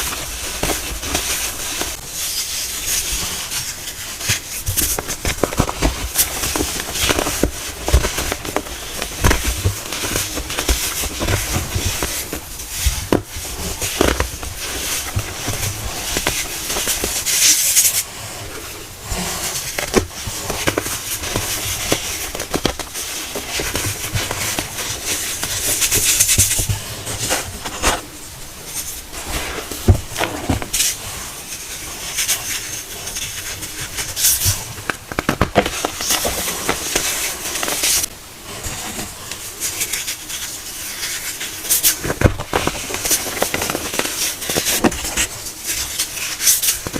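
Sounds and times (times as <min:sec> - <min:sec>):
crunching and crumbling: 0:00.0 - 0:39.9, 0:41.0 - 0:46.9.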